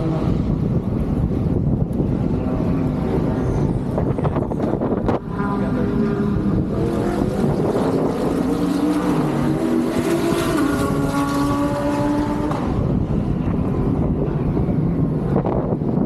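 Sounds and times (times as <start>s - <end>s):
engine running: 0.0s - 16.0s
wind on microphone: 0.0s - 16.0s.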